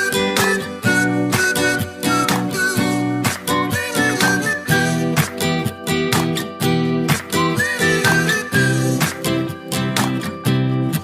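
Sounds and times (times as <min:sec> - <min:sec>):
pop song with strummed guitar: 0:00.0 - 0:11.0.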